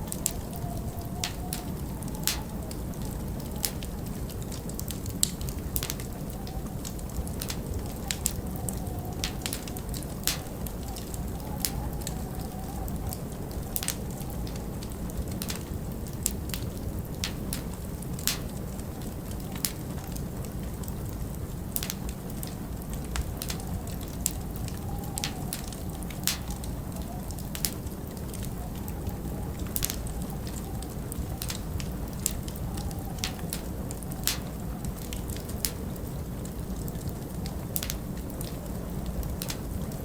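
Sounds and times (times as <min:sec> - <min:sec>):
low rumble of wind: 0:00.0 - 0:40.0
wood fire crackling and popping: 0:00.0 - 0:40.0.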